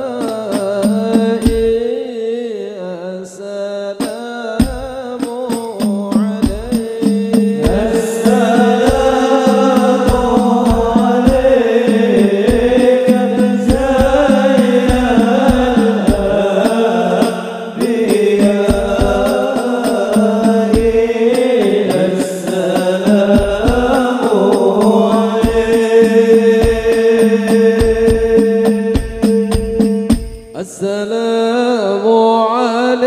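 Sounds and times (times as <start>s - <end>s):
frame drums beating: 0.0s - 1.8s, 4.0s - 30.6s
man singing devotional song: 0.0s - 33.0s.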